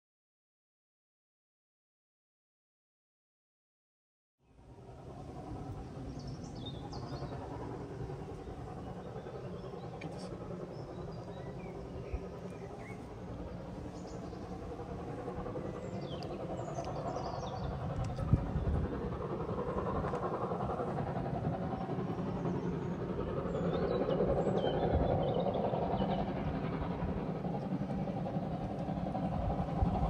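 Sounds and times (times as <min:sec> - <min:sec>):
train approaching rumble: 0:04.6 - 0:30.0
birds chirping: 0:05.8 - 0:30.0.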